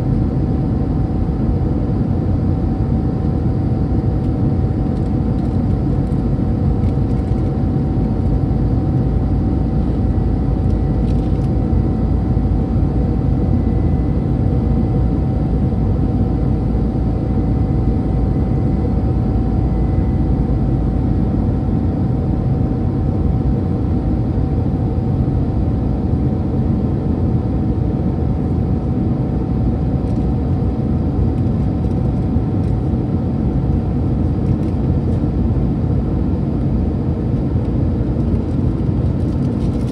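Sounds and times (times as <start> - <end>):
aircraft engine and airflow rush: 0.0 - 39.9
mid-pitched whine: 0.0 - 39.9.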